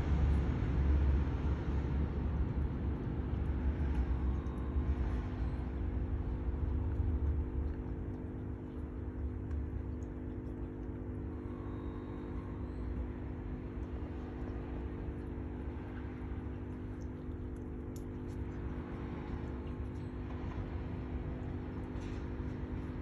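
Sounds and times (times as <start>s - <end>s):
low rumble: 0.0s - 23.0s
mechanical hum: 0.0s - 23.0s.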